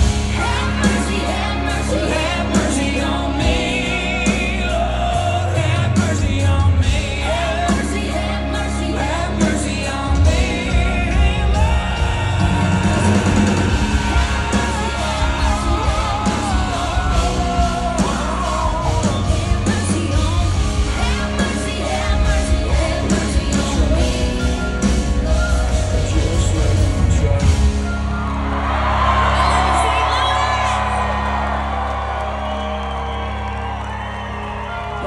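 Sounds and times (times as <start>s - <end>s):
country rock band playing: 0.0s - 35.0s.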